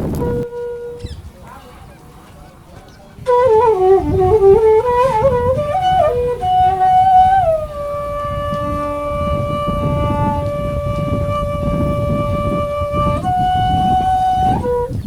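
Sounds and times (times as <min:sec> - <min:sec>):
wind instrument notes: 0:00.0 - 0:15.0.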